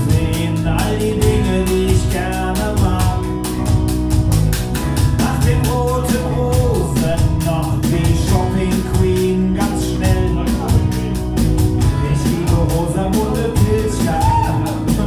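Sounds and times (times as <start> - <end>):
person singing: 0.0 - 3.5, 5.2 - 15.0
drum kit beat: 0.0 - 15.0
guitar and bass: 0.0 - 15.0.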